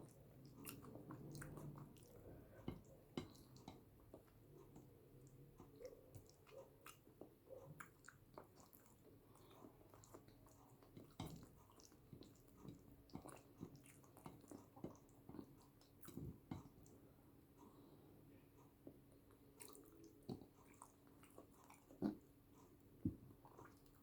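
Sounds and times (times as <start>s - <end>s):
wet chewing mouth clicks: 0.0s - 17.0s, 19.3s - 24.0s.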